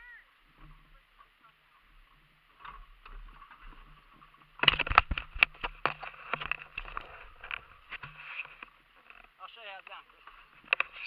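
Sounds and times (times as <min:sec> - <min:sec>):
rapid irregular clicks and knocks: 0:00.3 - 0:11.0.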